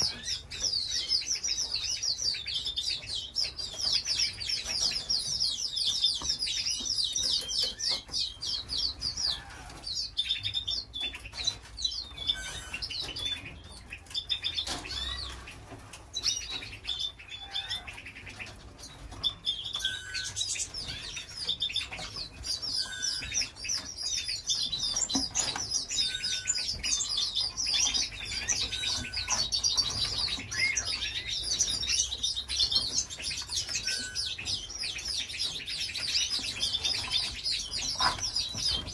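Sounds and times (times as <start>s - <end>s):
canaries trilling: 0.0s - 38.9s.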